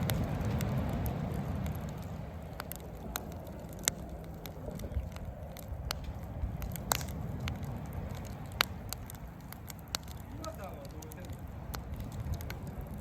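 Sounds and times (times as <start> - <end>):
low steady rumble: 0.0 - 13.0
wood fire crackling and popping: 0.0 - 13.0.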